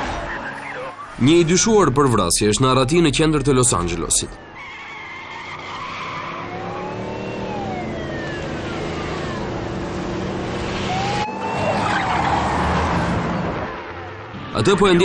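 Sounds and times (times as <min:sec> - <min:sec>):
police siren wailing: 0:00.0 - 0:01.8, 0:02.4 - 0:15.0
engine and road noise: 0:00.0 - 0:15.0.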